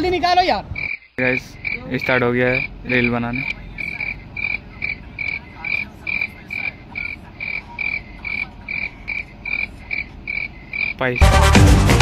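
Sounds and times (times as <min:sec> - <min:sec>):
level-crossing warning beeps: 0:01.2 - 0:11.0.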